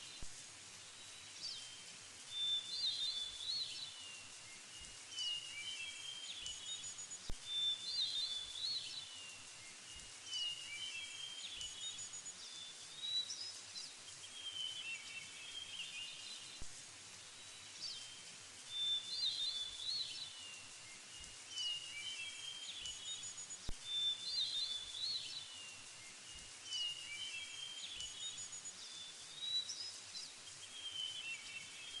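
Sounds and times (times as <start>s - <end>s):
songbirds chirping: 0.0s - 32.0s
steady hiss: 0.0s - 32.0s.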